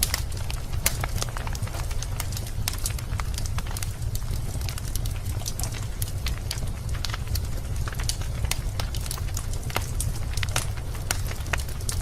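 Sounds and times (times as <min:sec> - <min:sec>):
low rumble of flames: 0:00.0 - 0:12.0
wood fire crackling: 0:00.0 - 0:12.0.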